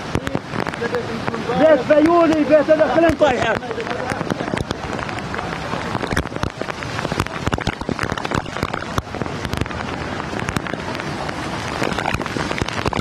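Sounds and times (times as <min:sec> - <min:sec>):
crackles of raindrops hitting: 0:00.0 - 0:13.0
heavy rain falling: 0:00.0 - 0:13.0.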